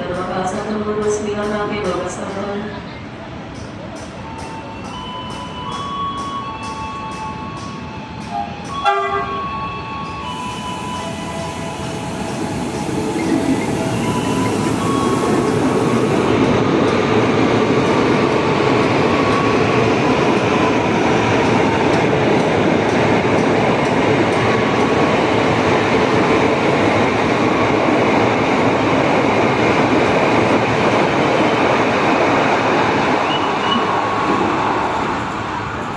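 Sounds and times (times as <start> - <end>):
electric train wheels on rails: 0.0 - 35.9.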